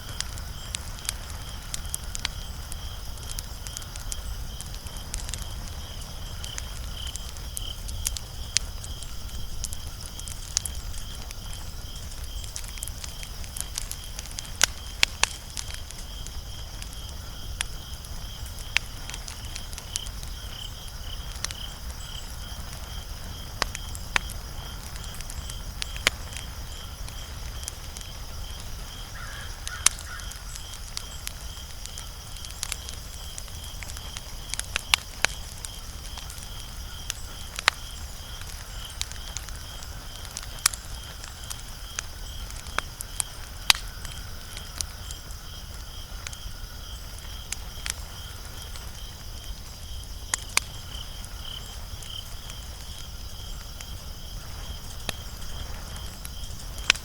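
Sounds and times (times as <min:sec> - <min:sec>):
crickets chirping: 0:00.0 - 0:57.0
wood fire crackling and popping: 0:00.0 - 0:57.0.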